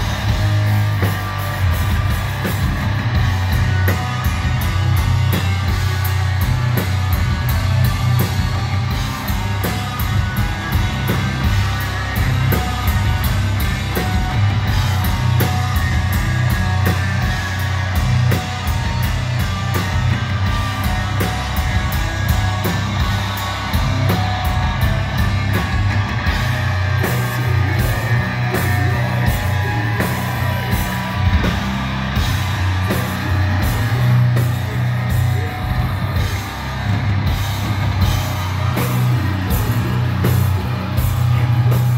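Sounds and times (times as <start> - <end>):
death metal band playing: 0.0 - 41.9.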